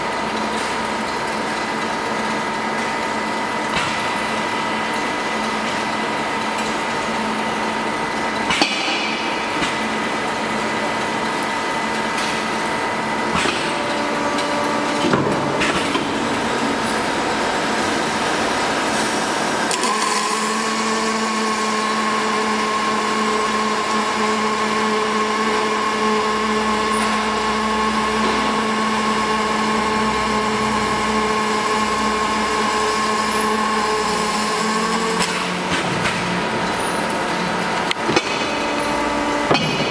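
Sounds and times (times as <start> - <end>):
machinery running: 0.0 - 39.9
welding torch hum and hiss: 2.5 - 39.9.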